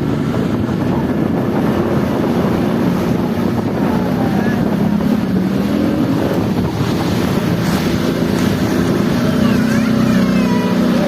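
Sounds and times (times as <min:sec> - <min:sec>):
motor engine droning: 0:00.0 - 0:11.0
wind buffeting microphone: 0:00.0 - 0:11.0.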